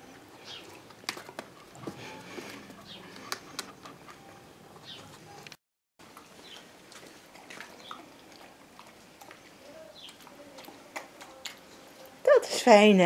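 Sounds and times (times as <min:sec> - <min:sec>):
dog chewing and lapping: 0:00.0 - 0:13.0.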